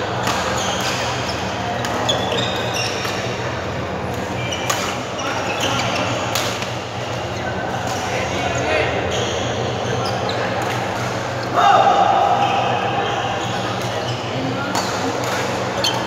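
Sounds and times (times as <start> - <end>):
shoes squeaking on court floor: 0.2 - 11.5, 12.4 - 16.0.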